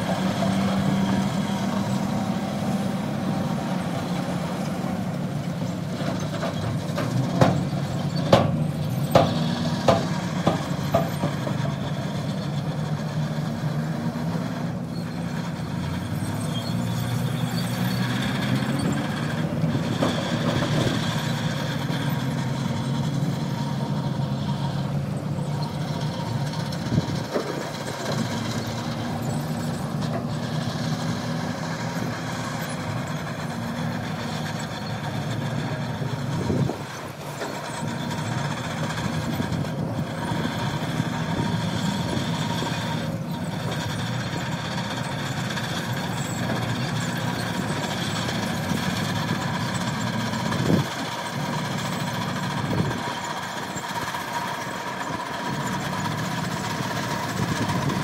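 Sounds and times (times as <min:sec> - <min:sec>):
heavy diesel engines running: 0:00.0 - 0:58.0.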